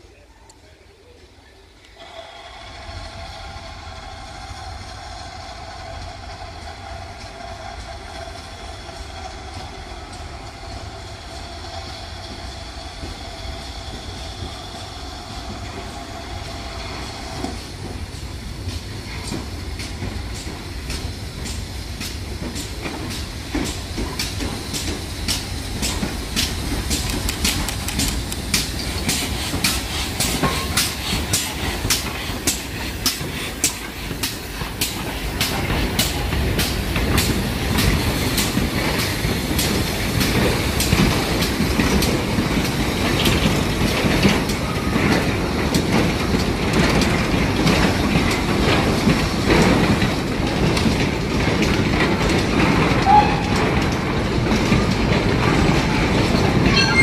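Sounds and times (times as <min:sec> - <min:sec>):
train wheels clattering over rail joints: 0:05.6 - 0:57.0.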